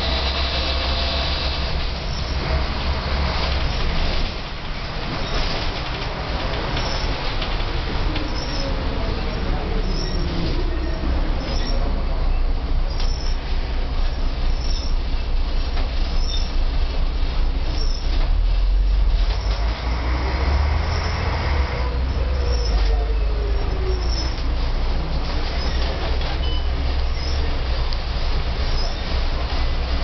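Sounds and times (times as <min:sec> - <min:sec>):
bus diesel engine rumble: 0:00.0 - 0:30.0.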